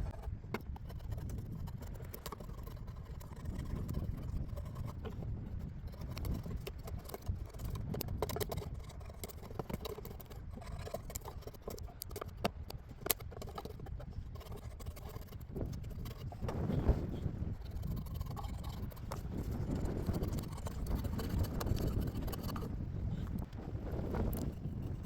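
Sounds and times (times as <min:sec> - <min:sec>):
blade scraping wood: 0:00.0 - 0:25.0
wind on microphone: 0:00.0 - 0:25.0.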